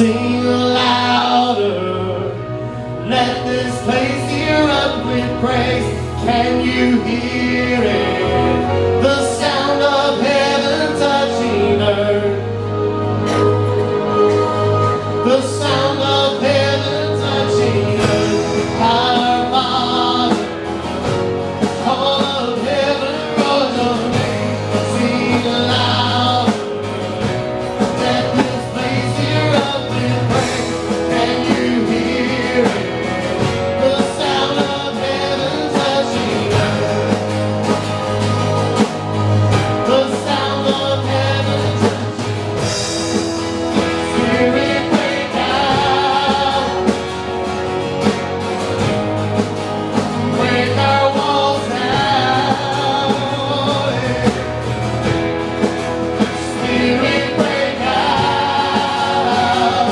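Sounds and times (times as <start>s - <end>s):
guitars and keyboard: 0.0s - 59.9s
group singing worship song: 3.0s - 48.3s, 49.9s - 59.9s.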